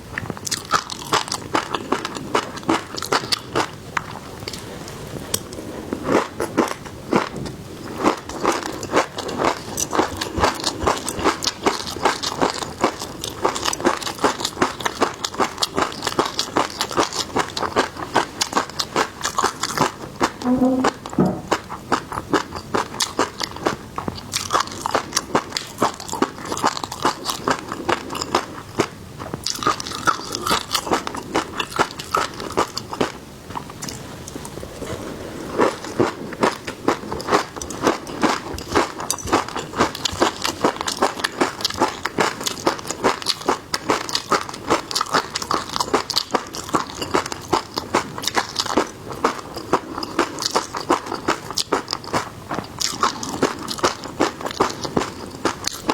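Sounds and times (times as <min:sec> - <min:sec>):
crunchy seafood chewing: 0:00.1 - 0:55.9.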